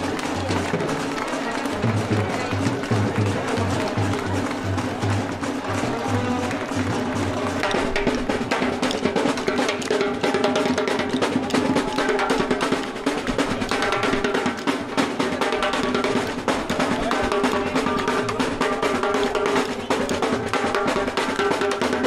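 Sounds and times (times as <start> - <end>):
marching drum band playing: 0.0 - 22.0.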